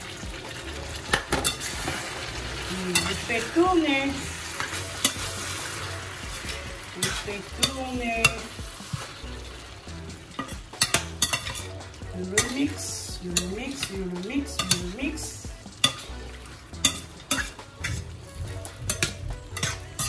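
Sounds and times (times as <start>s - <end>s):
food sizzling in a pan: 0.0s - 20.0s
metal spatula scraping a pan: 0.0s - 20.0s.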